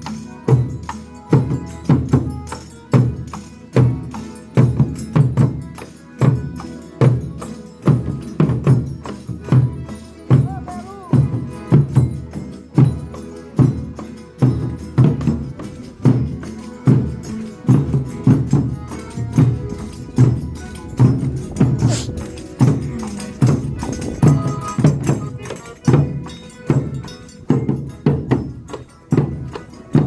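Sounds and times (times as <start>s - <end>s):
folk ensemble playing: 0.0s - 30.0s
steady drum beat: 0.0s - 30.0s
tambourine: 0.0s - 30.0s.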